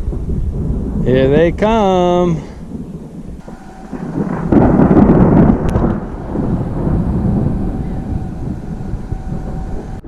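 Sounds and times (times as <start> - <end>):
rain falling: 0.0 - 10.0
thunder rumbling: 0.0 - 10.0.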